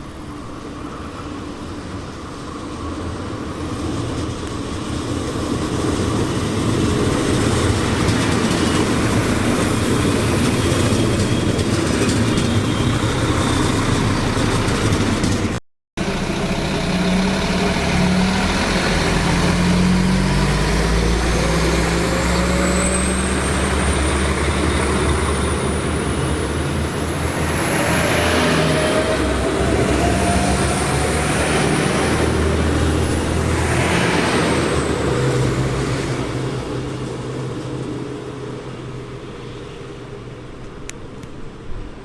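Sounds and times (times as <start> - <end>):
train rumbling by: 0.0 - 42.0.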